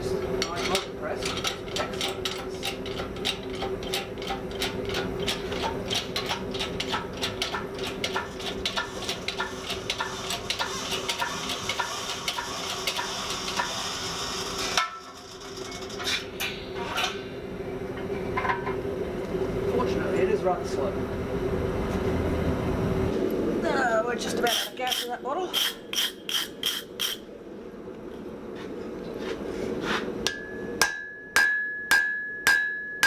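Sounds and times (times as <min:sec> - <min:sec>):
machinery hum: 0:00.0 - 0:33.0.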